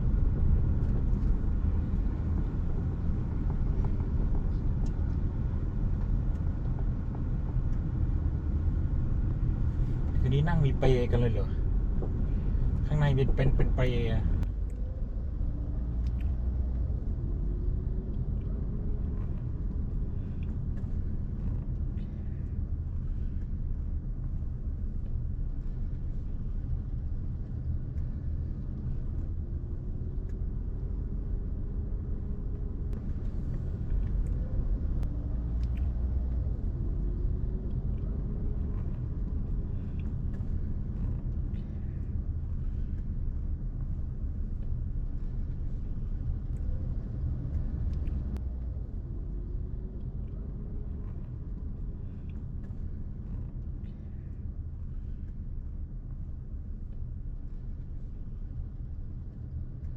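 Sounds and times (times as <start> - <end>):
car engine drone: 0.0 - 59.9
road rumble: 0.0 - 59.9.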